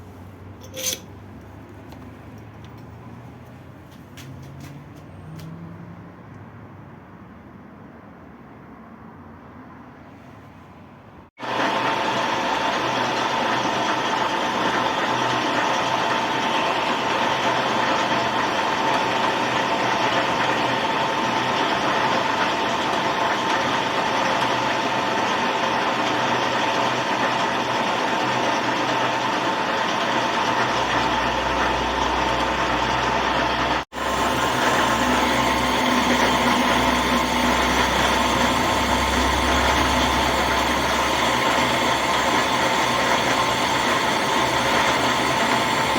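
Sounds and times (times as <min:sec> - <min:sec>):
workshop machine whining and humming: 0:00.0 - 0:05.7, 0:11.4 - 0:45.9.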